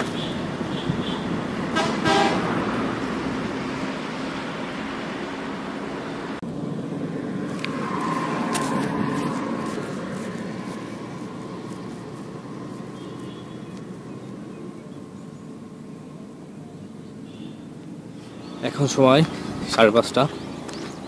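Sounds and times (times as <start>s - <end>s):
motor vehicle passing: 0.0s - 16.1s, 18.0s - 21.0s.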